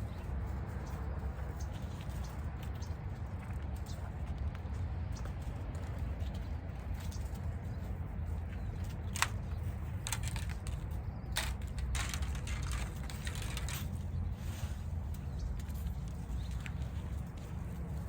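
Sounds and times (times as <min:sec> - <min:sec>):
steady low rumble: 0:00.0 - 0:18.0
wire mesh clicking and rattling: 0:00.0 - 0:18.0.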